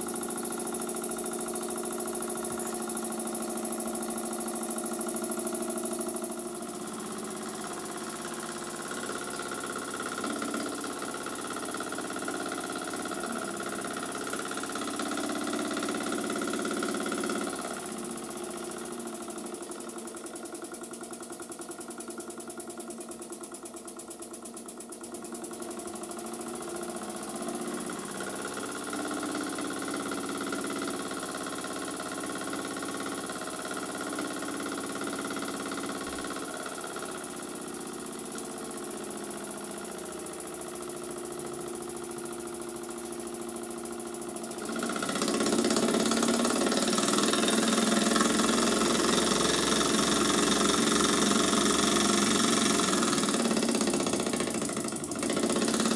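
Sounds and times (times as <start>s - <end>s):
toy steam engine running: 0.0s - 55.9s.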